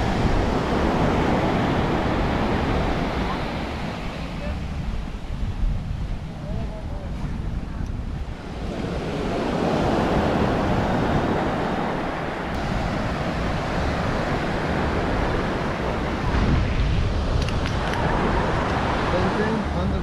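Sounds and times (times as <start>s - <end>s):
surf washing on beach: 0.0s - 20.0s
wind buffeting microphone: 0.0s - 20.0s.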